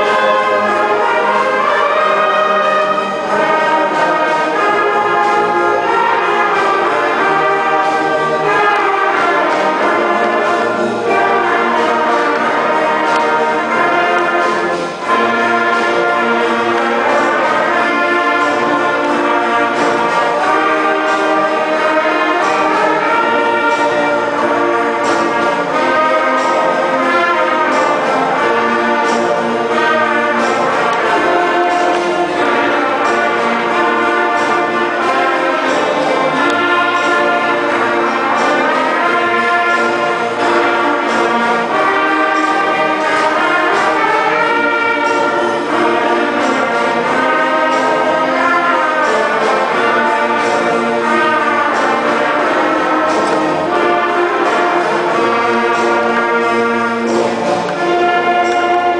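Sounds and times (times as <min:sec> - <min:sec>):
concert band playing: 0:00.0 - 0:58.9.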